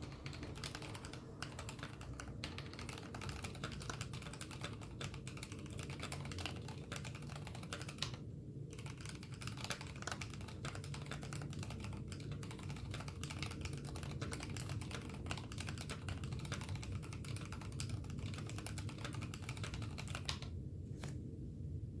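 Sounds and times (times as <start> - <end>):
fast typing on mechanical keyboard: 0.0 - 20.5.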